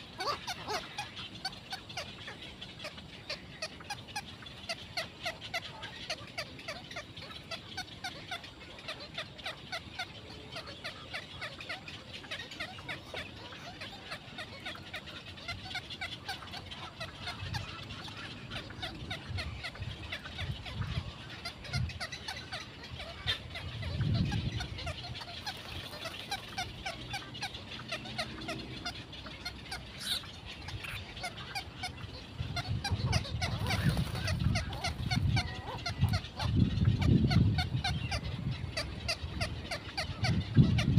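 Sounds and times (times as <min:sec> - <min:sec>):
rapid bird calls: 0:00.0 - 0:40.9.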